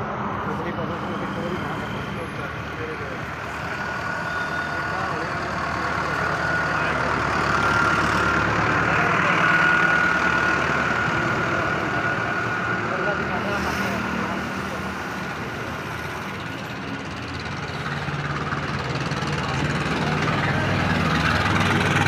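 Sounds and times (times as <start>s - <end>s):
tractor engine running: 1.0s - 22.0s.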